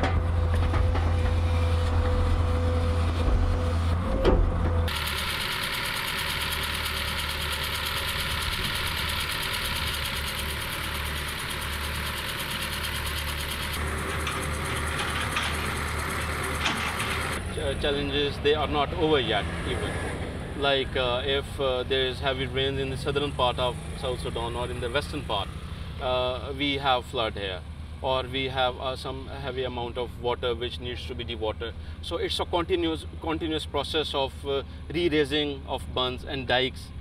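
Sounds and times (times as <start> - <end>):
heavy machinery engine rumble: 0.0 - 37.0.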